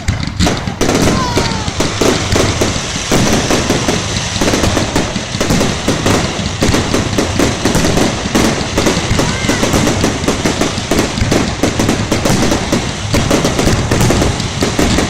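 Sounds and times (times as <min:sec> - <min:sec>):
firework whistling glide: 0:00.0 - 0:15.0
fireworks bangs and crackles: 0:00.0 - 0:15.0.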